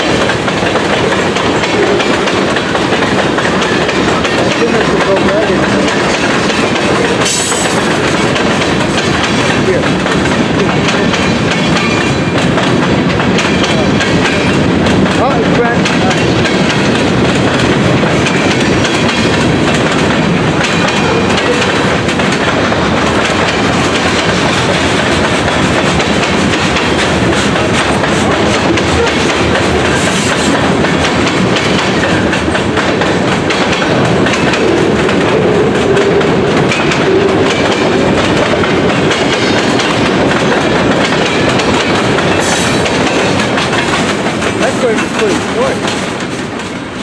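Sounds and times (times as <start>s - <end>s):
freight train cars rumbling past: 0.0s - 47.0s
wheels clacking over rail joints: 0.0s - 47.0s.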